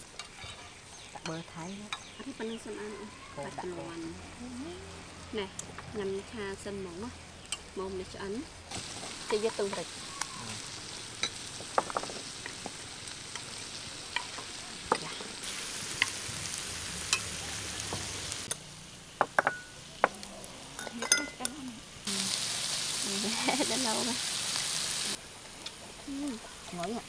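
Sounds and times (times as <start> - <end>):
beef sizzling on grill pan: 0.0 - 27.0.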